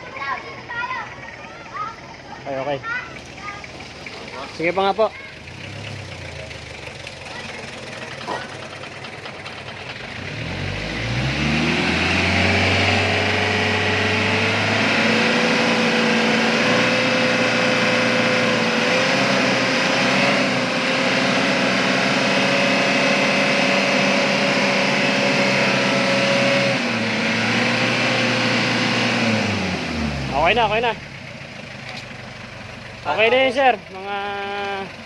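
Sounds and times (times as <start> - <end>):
van engine revving: 0.0 - 35.0.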